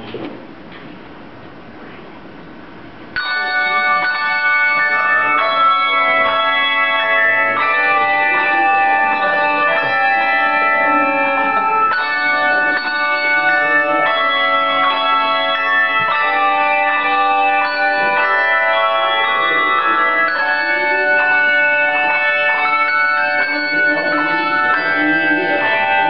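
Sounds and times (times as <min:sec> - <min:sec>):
handbell choir ringing: 0:03.2 - 0:26.0.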